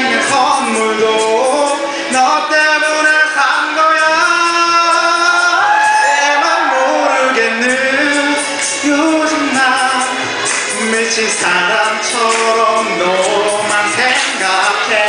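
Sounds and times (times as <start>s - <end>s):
backing music: 0.0s - 15.0s
man singing into a microphone: 0.0s - 15.0s.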